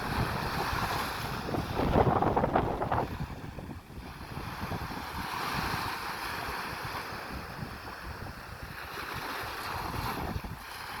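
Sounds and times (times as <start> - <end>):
sea waves breaking on shore: 0.0 - 11.0
wind gusting on microphone: 0.0 - 11.0.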